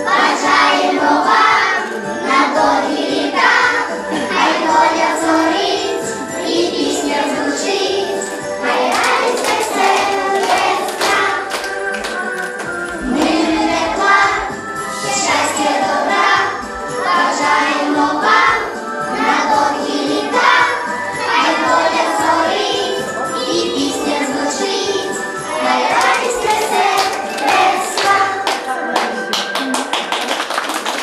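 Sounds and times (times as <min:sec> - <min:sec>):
group singing children's song: 0:00.0 - 0:30.0
instrumental backing track: 0:00.2 - 0:29.9.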